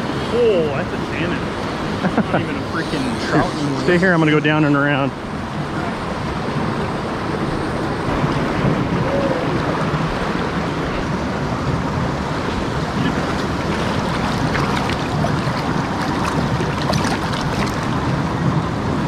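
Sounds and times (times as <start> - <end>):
river water rushing over boulders: 0.0 - 19.0.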